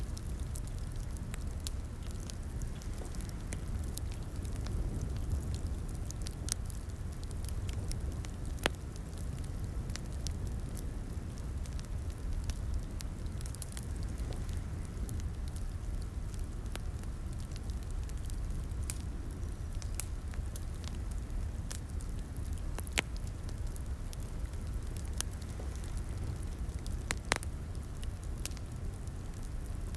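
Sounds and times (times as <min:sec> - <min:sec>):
wood fire crackling: 0:00.0 - 0:29.9.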